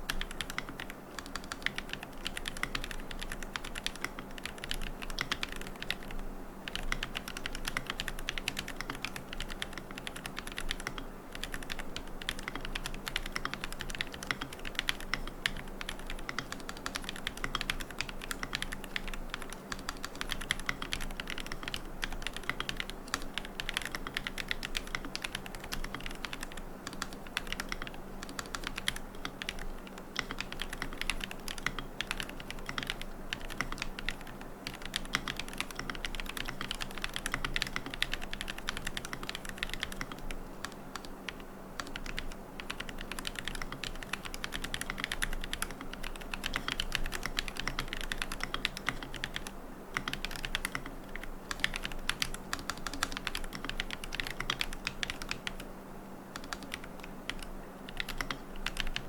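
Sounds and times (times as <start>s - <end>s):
typing on mechanical keyboard: 0.1s - 55.7s, 56.3s - 59.0s.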